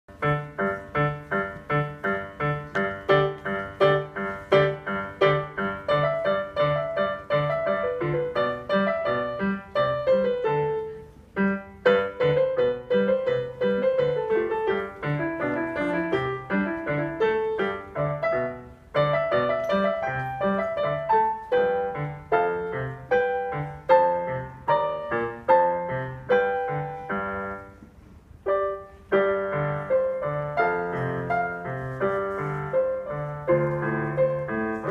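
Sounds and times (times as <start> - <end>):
digital piano piece: 0.1 - 34.9.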